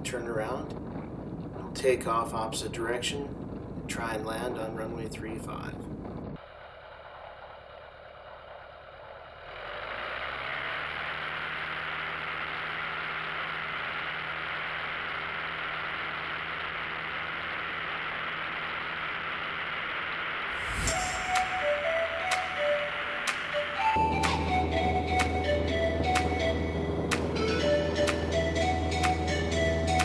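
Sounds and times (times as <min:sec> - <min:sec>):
propeller plane engine running: 0:00.0 - 0:30.0.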